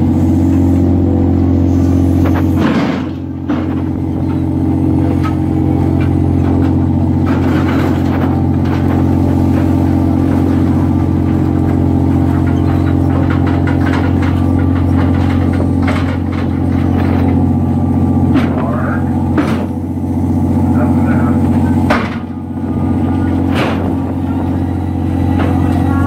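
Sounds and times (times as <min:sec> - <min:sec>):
boat engine drone: 0:00.0 - 0:26.0
knocks and clanks: 0:02.2 - 0:26.0.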